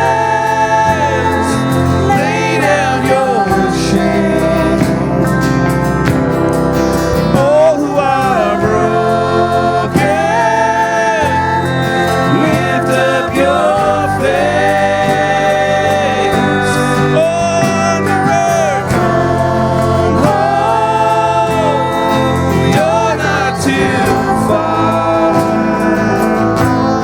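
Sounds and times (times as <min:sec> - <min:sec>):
instrumental accompaniment: 0:00.0 - 0:27.0
voices singing gospel song: 0:00.0 - 0:27.0.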